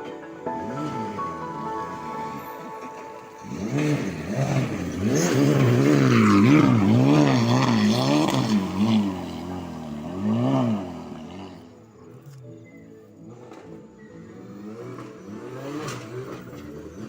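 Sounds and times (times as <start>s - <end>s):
race car engine revving: 0.4s - 12.4s, 13.1s - 17.0s.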